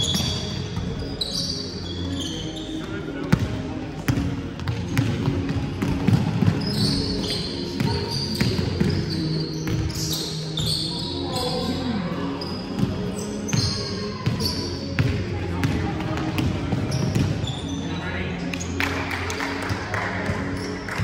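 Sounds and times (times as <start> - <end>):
sneakers squeaking on court: 0.0 - 18.0
players' voices: 0.0 - 21.0.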